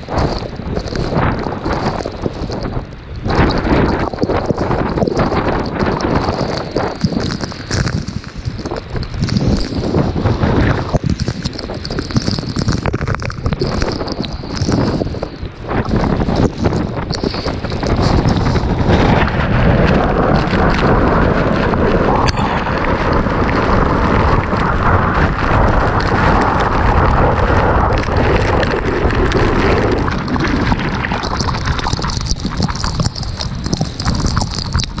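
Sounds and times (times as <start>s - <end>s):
rain: 0.0s - 35.0s
storm wind buffeting microphone: 0.0s - 35.0s.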